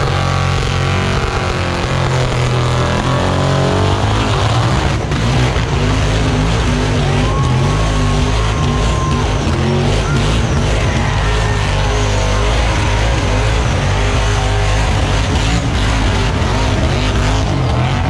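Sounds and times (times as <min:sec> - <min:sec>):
engine revving hard: 0:00.0 - 0:18.0.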